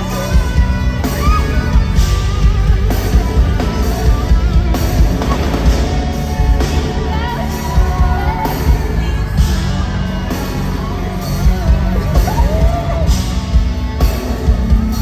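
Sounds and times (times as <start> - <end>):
woman singing: 0.0 - 13.6
drums: 0.0 - 15.0
electric guitar: 0.0 - 15.0
live pop-rock music: 0.0 - 15.0.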